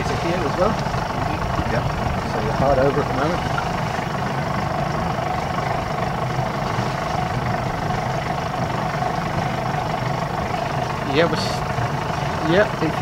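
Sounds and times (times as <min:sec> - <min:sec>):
diesel engine running at low revs: 0:00.0 - 0:13.0
thin steady whine: 0:00.0 - 0:13.0.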